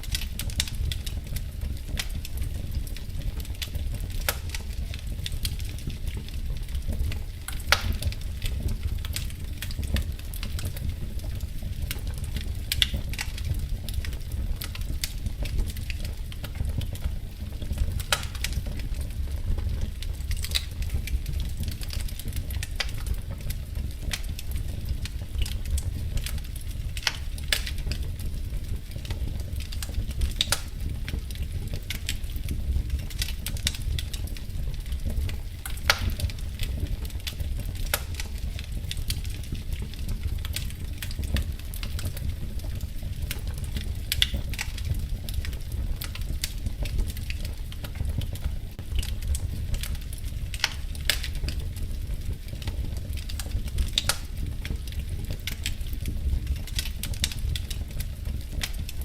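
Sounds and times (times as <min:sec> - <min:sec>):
low steady rumble: 0:00.0 - 0:59.0
wood fire crackling: 0:00.0 - 0:59.0.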